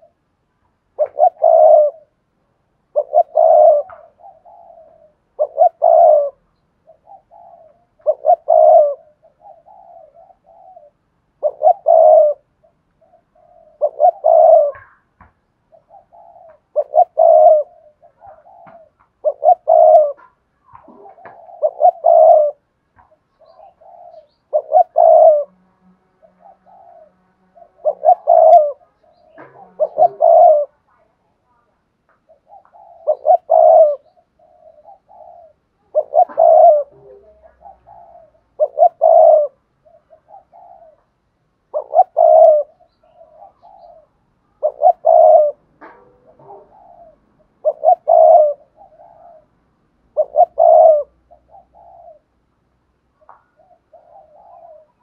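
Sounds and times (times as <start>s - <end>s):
dove cooing: 0.0s - 0.2s, 0.8s - 55.0s.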